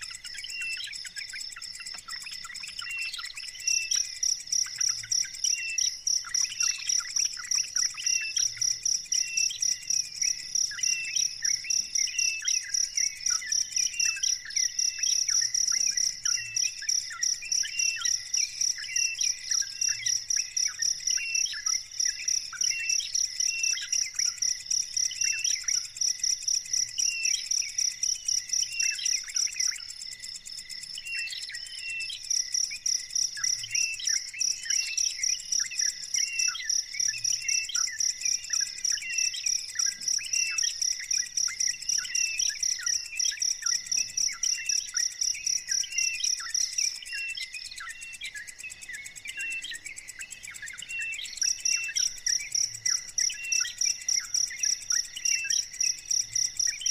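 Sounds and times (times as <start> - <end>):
insect chirping in fast pulse: 0.0 - 56.9.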